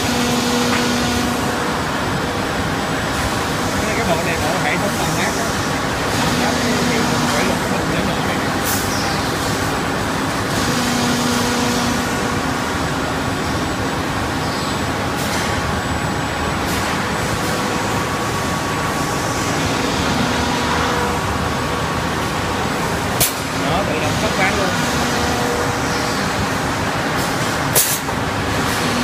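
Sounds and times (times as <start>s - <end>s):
woodworking machinery din: 0.0s - 14.4s, 15.0s - 29.0s.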